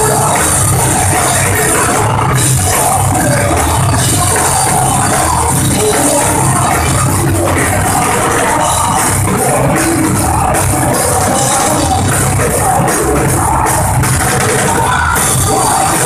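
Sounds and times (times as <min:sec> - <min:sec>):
drum kit: 0:00.0 - 0:16.0
electric guitars: 0:00.0 - 0:16.0
person singing into microphone: 0:00.0 - 0:16.0.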